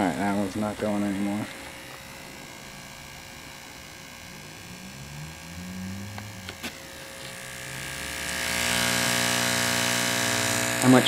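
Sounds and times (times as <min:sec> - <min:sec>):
speaker buzzing with mains hum: 0:00.0 - 0:11.0.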